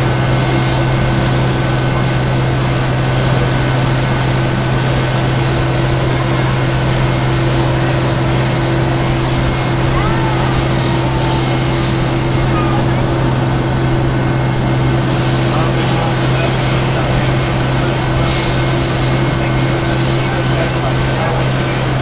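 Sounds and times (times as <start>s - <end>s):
tram driving drone: 0.0s - 22.0s.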